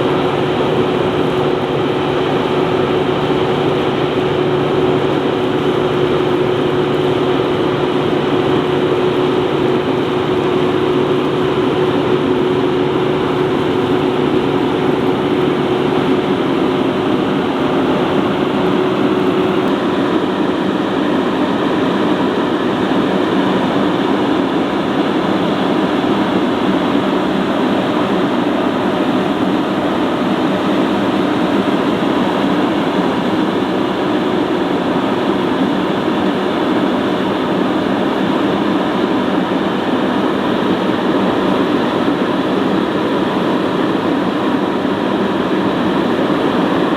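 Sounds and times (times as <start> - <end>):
diesel engine droning under load: 0.0 - 46.9.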